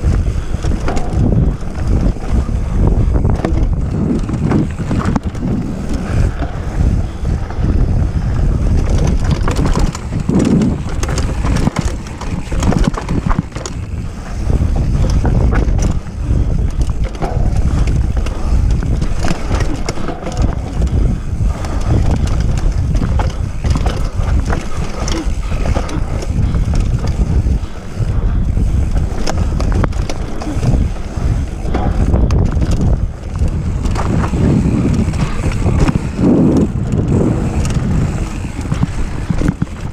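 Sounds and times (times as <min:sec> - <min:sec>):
bike knocking and rattling: 0:00.0 - 0:39.9
bike tyres on dirt: 0:00.0 - 0:39.9
wind noise on microphone: 0:00.0 - 0:39.9.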